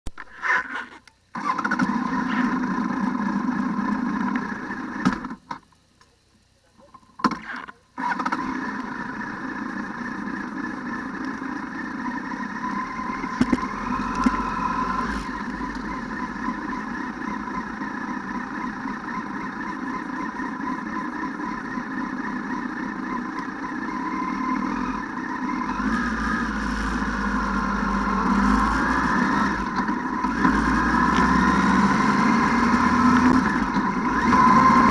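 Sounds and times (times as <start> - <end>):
atv engine running: 1.4 - 6.1, 8.0 - 34.9.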